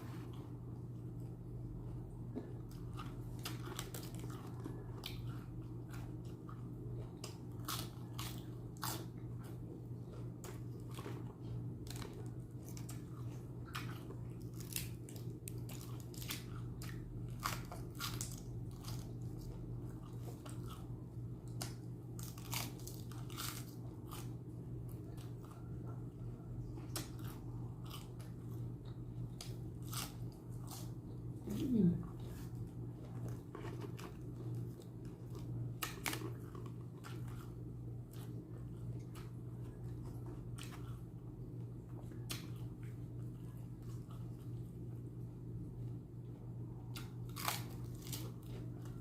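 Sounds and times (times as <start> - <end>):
steady low hum: 0.0 - 49.0
person chewing crunchy food: 0.1 - 45.2, 46.2 - 49.0.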